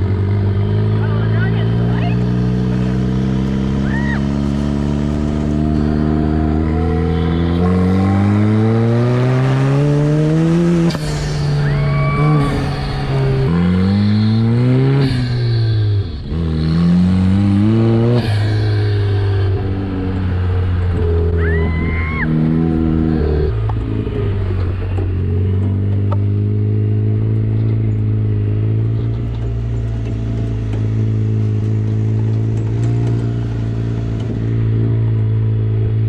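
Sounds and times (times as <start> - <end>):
buggy engine accelerating: 0.0 - 36.0.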